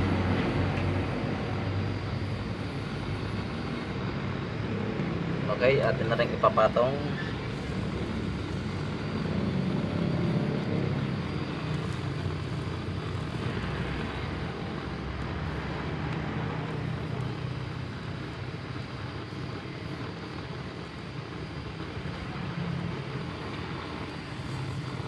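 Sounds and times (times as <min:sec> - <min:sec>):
gas blowtorch roaring: 0:00.0 - 0:25.0.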